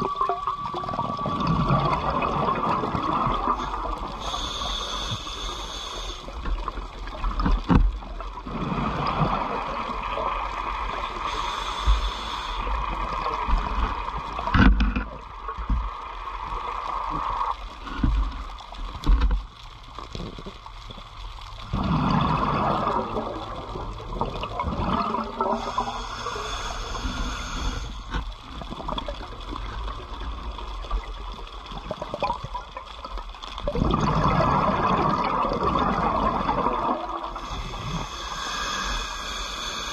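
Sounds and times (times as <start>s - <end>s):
diver's exhaled bubbles gurgling: 0.0s - 5.0s, 6.5s - 15.2s, 21.6s - 39.9s.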